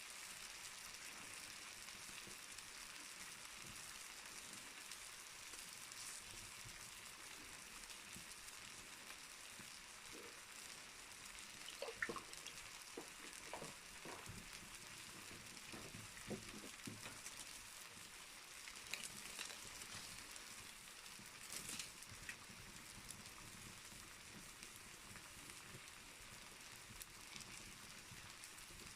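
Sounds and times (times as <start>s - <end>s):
fire hissing: 0.0s - 28.9s
wood fire crackling: 0.0s - 28.9s.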